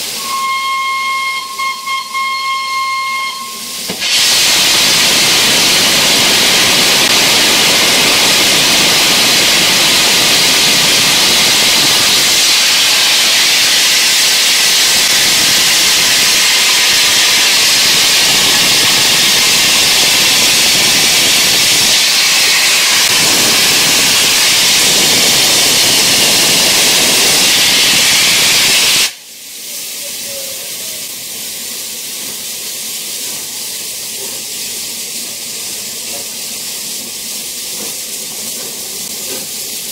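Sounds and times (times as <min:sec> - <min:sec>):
steam locomotive venting steam: 0:00.0 - 0:39.9.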